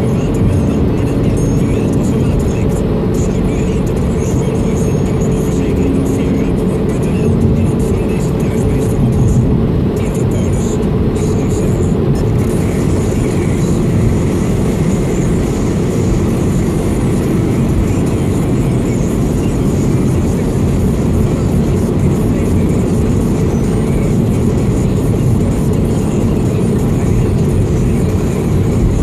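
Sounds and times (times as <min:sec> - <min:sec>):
car cabin road and engine noise: 0:00.0 - 0:29.0.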